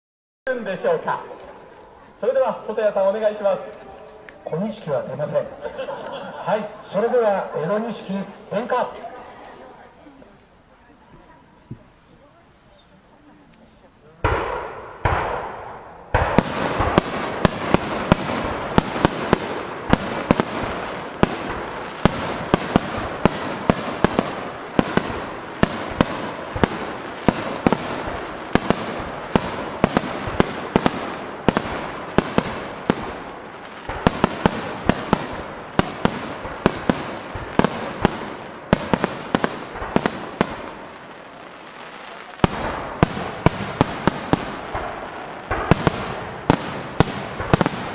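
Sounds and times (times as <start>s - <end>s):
fireworks bangs: 0.5s - 47.9s
fireworks crackle: 0.5s - 47.9s.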